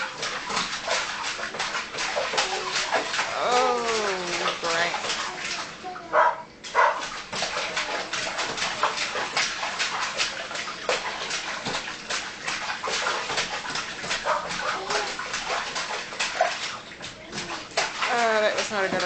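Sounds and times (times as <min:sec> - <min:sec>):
baby splashing water: 0:00.0 - 0:19.0.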